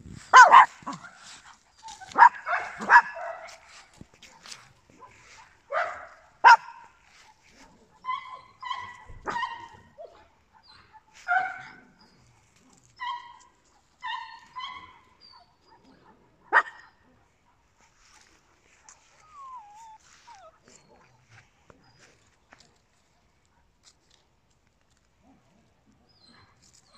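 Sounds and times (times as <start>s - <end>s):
small dog barking and yipping: 0.2s - 22.5s.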